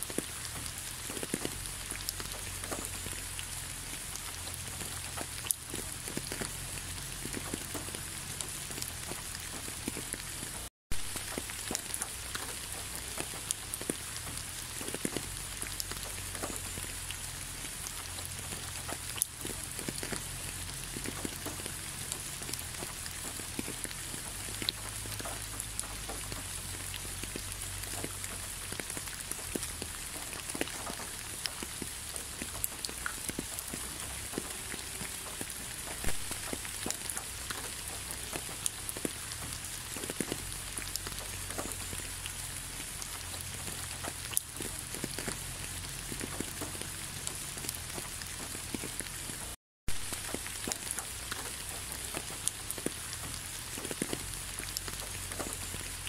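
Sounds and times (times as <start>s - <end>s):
raindrops striking a hard surface: 0.0s - 56.0s
steady rain hiss: 0.0s - 56.0s.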